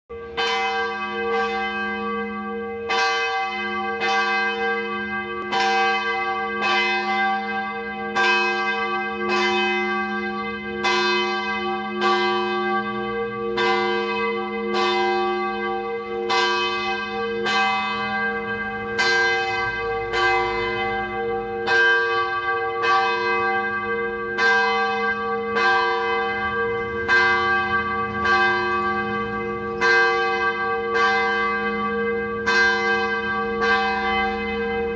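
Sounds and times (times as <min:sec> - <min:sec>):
church bell ringing: 0:00.1 - 0:34.9.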